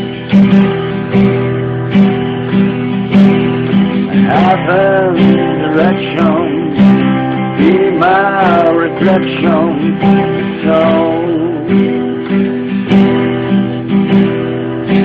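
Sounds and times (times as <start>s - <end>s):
strummed acoustic guitar song: 0.0s - 15.0s.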